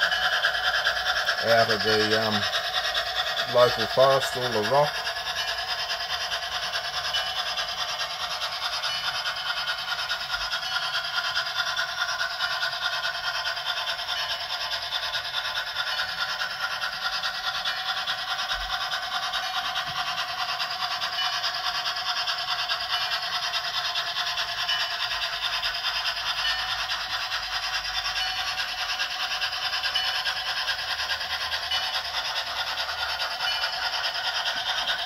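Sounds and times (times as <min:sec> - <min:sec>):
model train motor whirring: 0:00.0 - 0:35.0.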